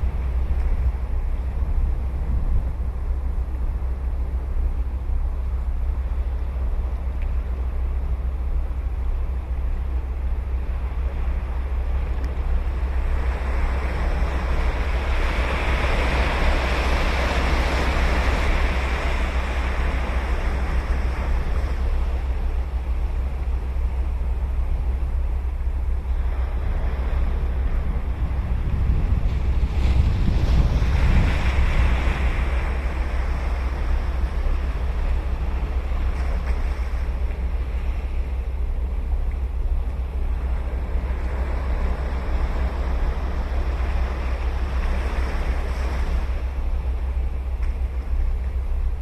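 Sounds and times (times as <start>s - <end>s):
ocean waves breaking: 0.0s - 49.0s
wind on the microphone: 0.0s - 49.0s.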